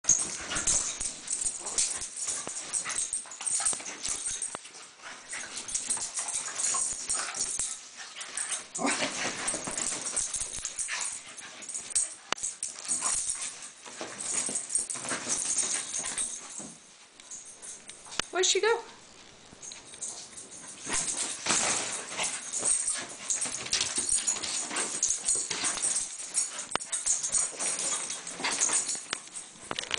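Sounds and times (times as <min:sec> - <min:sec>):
scuffling and rustling bedding: 0:00.0 - 0:18.2, 0:18.9 - 0:29.7.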